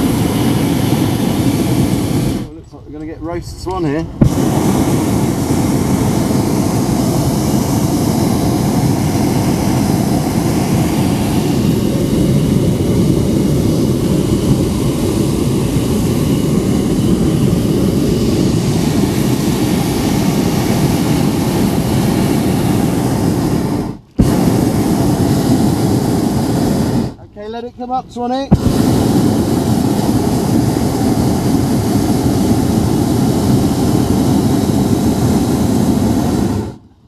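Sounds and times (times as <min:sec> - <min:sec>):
propane burner roaring: 0:00.0 - 0:27.4, 0:28.1 - 0:37.0.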